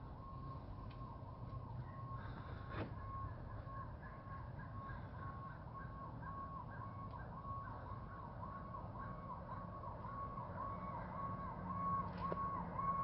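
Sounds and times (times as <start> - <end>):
distant electronic siren: 0.0 - 13.0.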